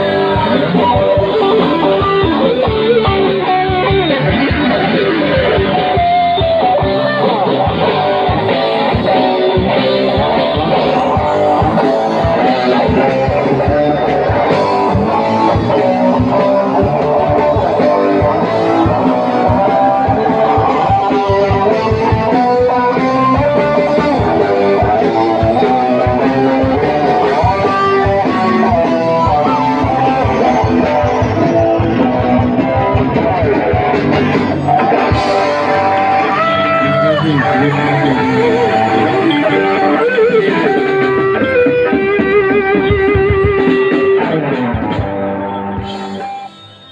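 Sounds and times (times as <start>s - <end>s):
guitar melody: 0.0s - 46.9s
steady drums: 0.0s - 46.9s.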